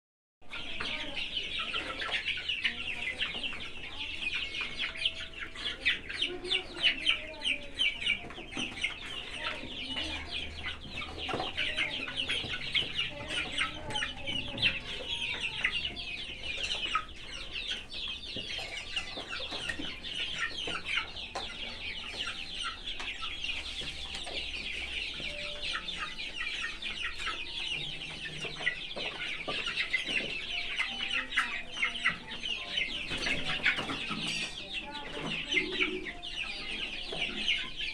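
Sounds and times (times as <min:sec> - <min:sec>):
chicks peeping: 0:00.4 - 0:37.9.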